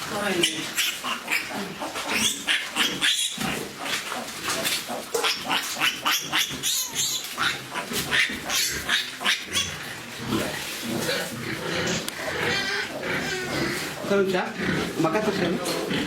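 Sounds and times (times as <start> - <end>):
pigs squealing and grunting: 0.0 - 16.0.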